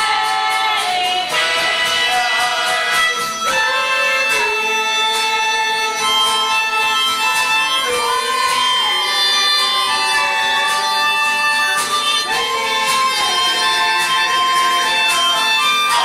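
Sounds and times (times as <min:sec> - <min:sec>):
long held melody notes: 0:00.0 - 0:16.0.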